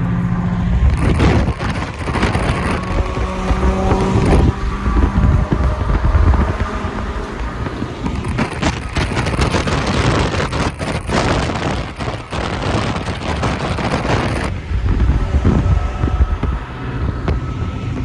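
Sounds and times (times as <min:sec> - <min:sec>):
car engine rumbling: 0:00.0 - 0:18.0
loud harsh noise: 0:00.0 - 0:18.0
wind buffeting microphone: 0:00.0 - 0:18.0.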